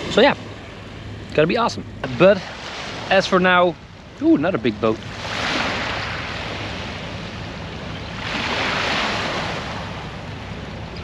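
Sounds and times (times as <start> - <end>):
small waves washing on shore: 0.0 - 11.0.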